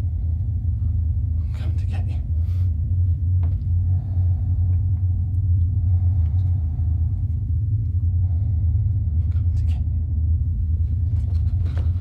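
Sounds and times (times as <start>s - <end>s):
deep low rumble drone: 0.0s - 12.0s.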